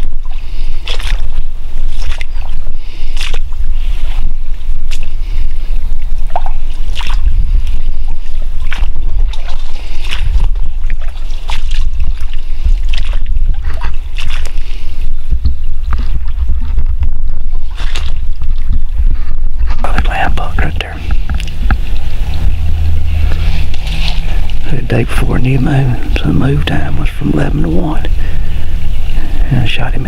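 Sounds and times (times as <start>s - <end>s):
footsteps sloshing through water: 0.0s - 30.0s
wind buffeting microphone: 0.0s - 30.0s.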